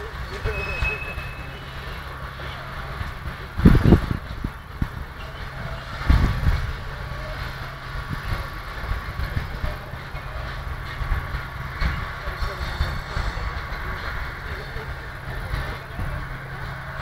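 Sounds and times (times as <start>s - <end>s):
heavy wagon knocks: 0.0s - 17.0s
railway wagons rumbling: 0.0s - 17.0s.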